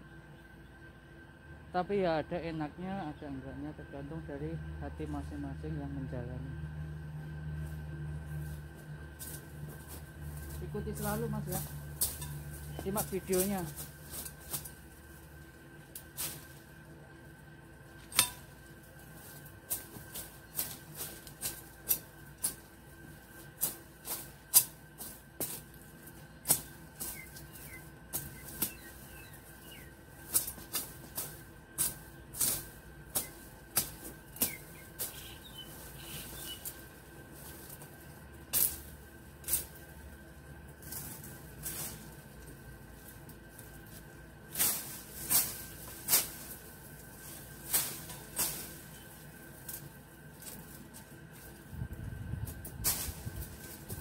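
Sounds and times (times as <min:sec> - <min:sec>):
dry leaves and twigs crackling: 0:04.0 - 0:54.0.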